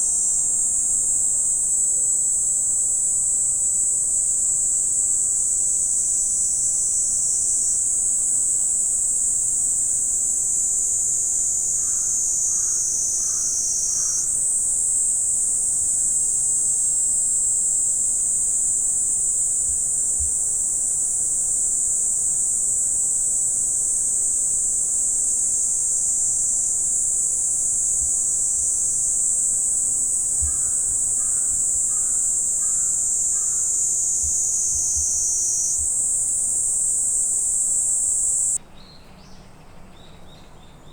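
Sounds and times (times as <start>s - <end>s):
insect chorus: 0.0s - 38.6s.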